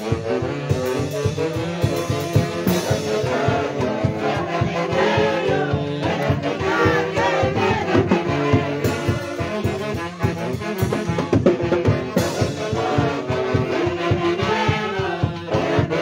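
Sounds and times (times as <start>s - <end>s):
brass band playing: 0.0s - 16.0s
steady drumbeat: 0.0s - 16.0s.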